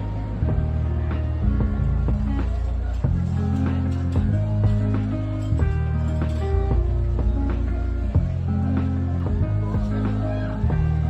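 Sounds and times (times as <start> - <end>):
held bass line: 0.0 - 11.0
plucked guitar notes: 0.0 - 11.0.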